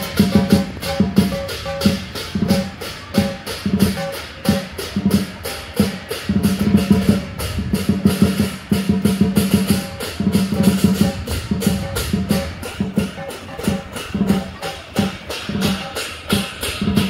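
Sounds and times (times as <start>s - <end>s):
percussion beat: 0.0s - 17.0s.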